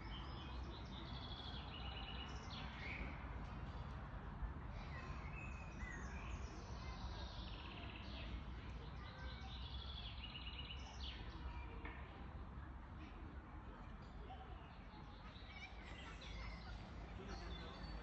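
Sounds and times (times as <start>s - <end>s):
songbirds chirping and trilling: 0.0s - 12.0s, 13.8s - 18.0s.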